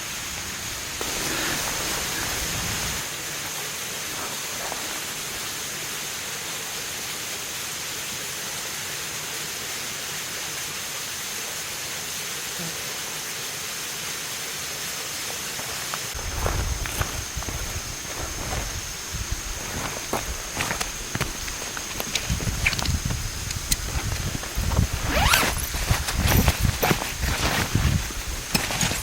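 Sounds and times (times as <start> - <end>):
running water rushing: 0.0 - 29.0.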